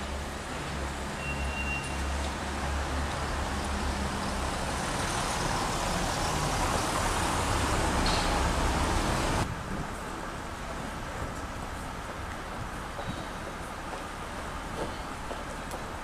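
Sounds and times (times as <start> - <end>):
cars driving on cobblestones: 0.0 - 16.0.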